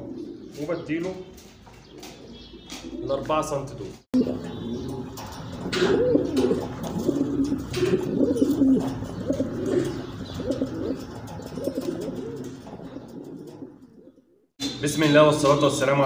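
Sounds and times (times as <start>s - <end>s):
pigeons cooing: 0.0s - 14.5s.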